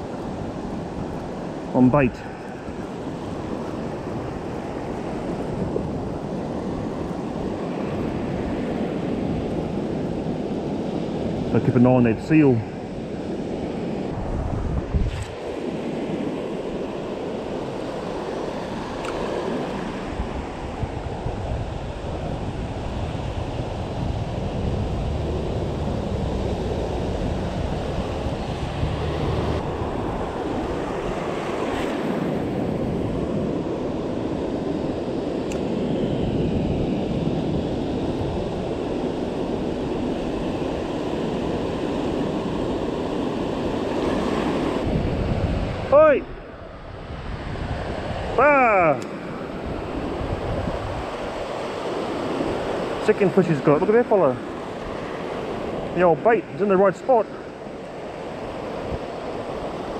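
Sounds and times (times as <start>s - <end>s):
wind on microphone: 0.0s - 56.7s, 57.3s - 59.9s
surf on pebbly shore: 0.0s - 59.9s.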